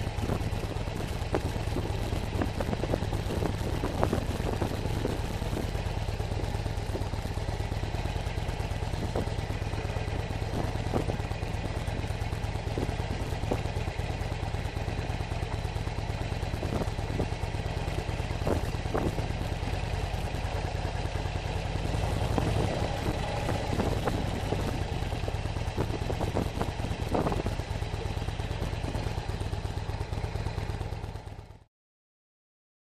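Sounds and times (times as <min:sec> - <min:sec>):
knocks and rattles on rough road: 0:00.0 - 0:31.7
motorcycle engine running: 0:00.0 - 0:31.7.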